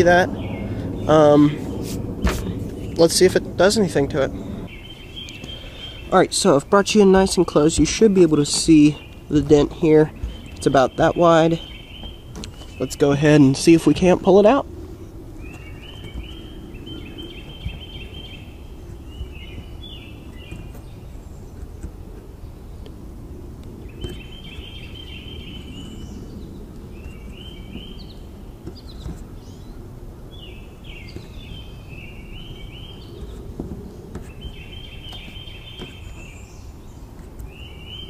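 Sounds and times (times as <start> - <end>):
outdoor background noise: 0.0 - 38.0
songbird chirping: 0.0 - 38.0.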